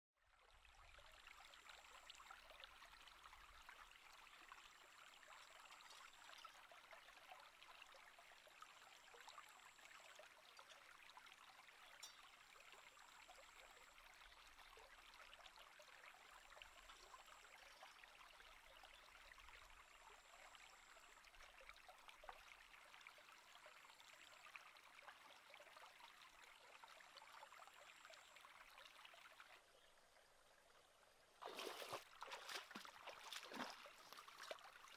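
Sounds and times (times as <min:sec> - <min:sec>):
stream running over rocks: 0:00.8 - 0:34.9.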